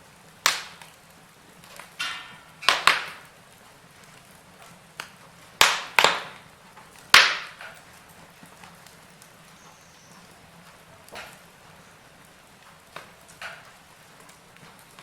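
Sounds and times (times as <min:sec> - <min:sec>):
low steady hiss: 0:00.0 - 0:15.0
firewood popping: 0:00.1 - 0:15.0.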